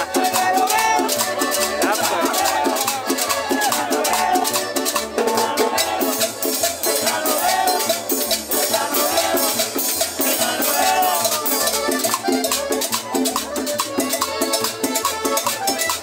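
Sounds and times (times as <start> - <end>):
latin dance band playing: 0.0 - 16.0
maracas: 0.0 - 16.0.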